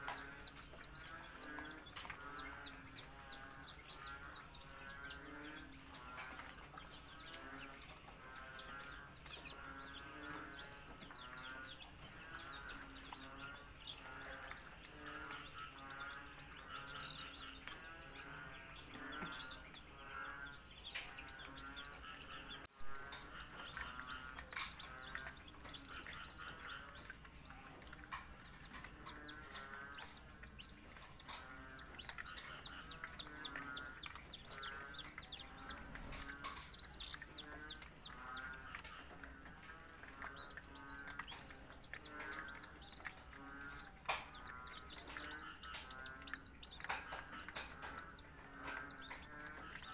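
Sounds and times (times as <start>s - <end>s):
chicks chirping and trilling: 0.0s - 49.9s.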